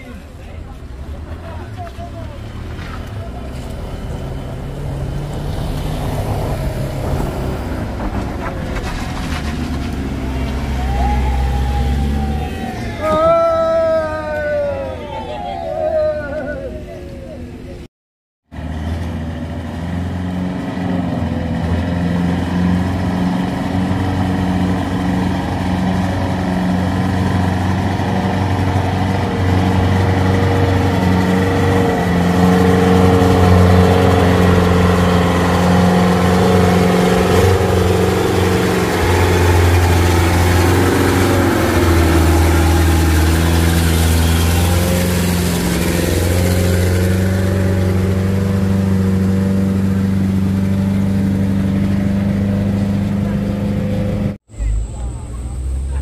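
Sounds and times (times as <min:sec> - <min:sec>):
truck engines under load: 0:00.0 - 0:17.9, 0:18.5 - 0:56.0.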